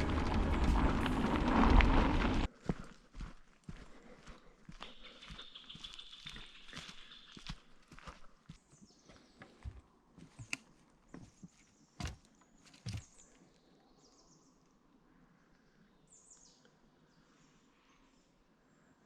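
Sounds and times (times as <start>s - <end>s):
quiet outdoor ambience: 0.0s - 19.0s.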